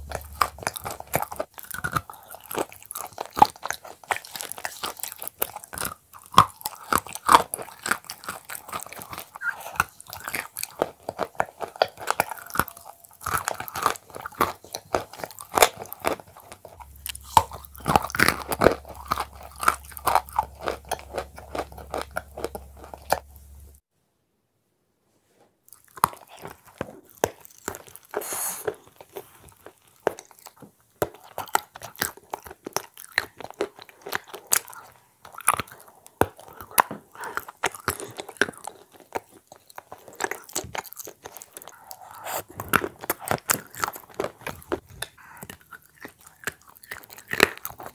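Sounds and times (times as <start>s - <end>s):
crunchy food being chewed: 0.0s - 23.8s, 25.7s - 47.9s.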